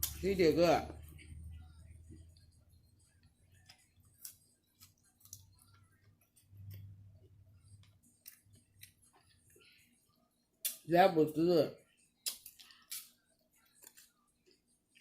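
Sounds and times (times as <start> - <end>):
soft chewing: 0.9 - 10.8, 11.8 - 15.0.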